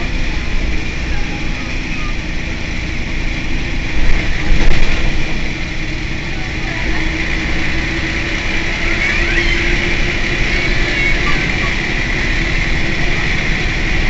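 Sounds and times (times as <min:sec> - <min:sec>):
bus diesel engine idling: 0:00.0 - 0:14.0.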